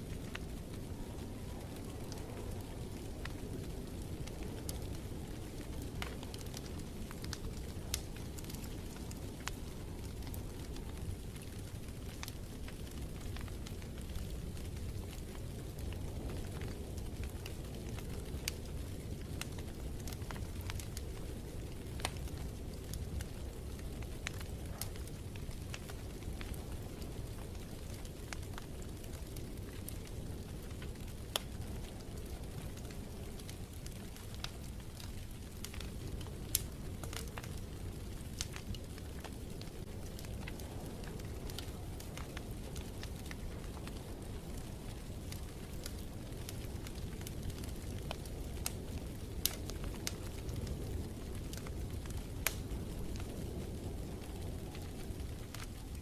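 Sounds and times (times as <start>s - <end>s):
fire pops: 0.0s - 56.0s
wood fire crackling: 0.0s - 56.0s.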